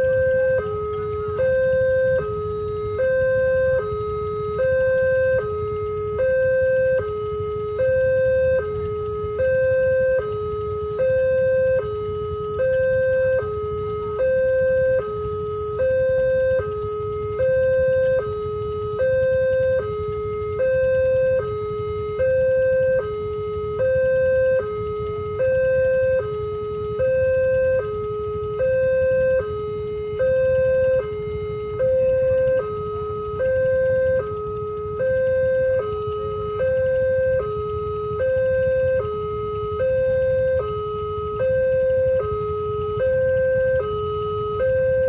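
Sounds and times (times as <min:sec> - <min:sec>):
two-tone level crossing siren: 0:00.0 - 0:45.0.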